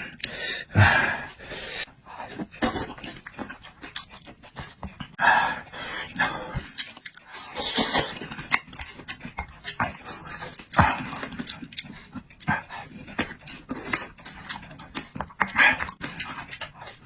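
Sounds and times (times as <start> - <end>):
man chewing and slurping: 0.0 - 17.0.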